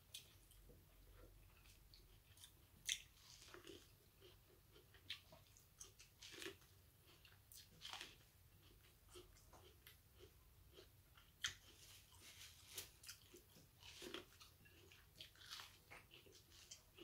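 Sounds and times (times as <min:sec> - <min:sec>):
person chewing corn on the cob: 0:00.0 - 0:17.0.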